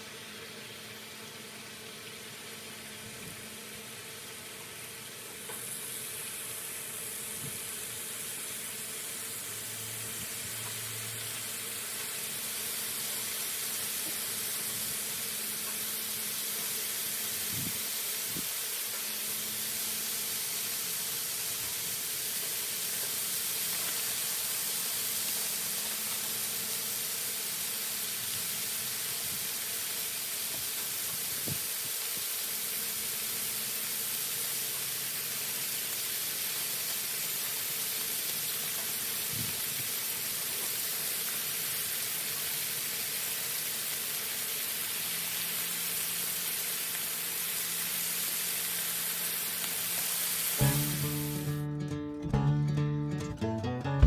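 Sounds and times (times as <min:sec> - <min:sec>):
bacon sizzling on a griddle: 0:00.0 - 0:51.6.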